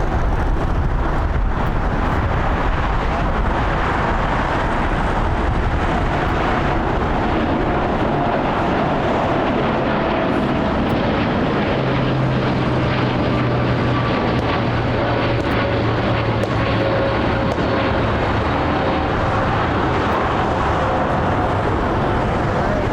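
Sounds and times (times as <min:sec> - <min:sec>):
jet engines running: 0:00.0 - 0:22.9.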